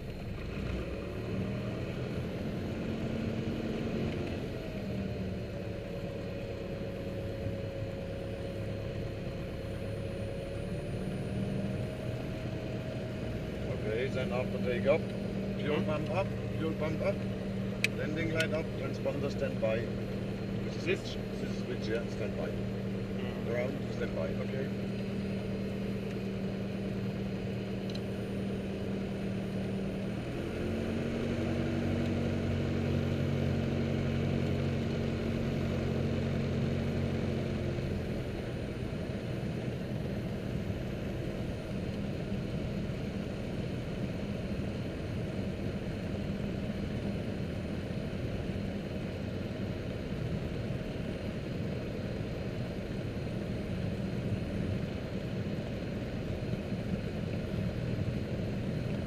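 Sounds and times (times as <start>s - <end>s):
aircraft engine and propeller: 0.0s - 59.0s.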